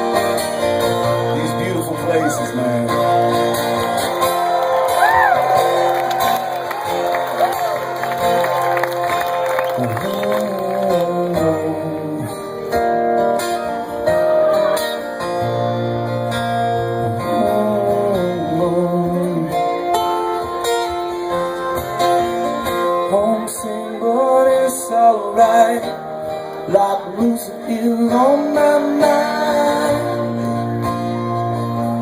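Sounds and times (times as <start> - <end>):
live band playing: 0.0 - 32.0.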